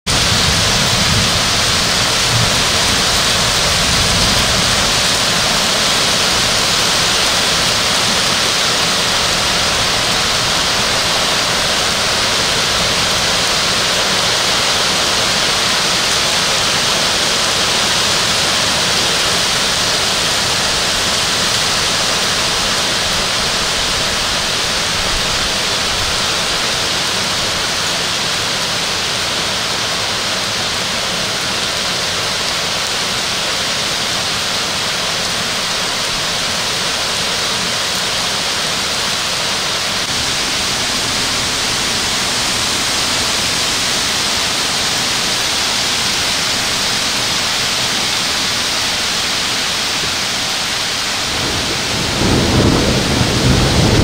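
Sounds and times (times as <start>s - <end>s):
heavy rain on pavement and roofs: 0.0s - 54.0s.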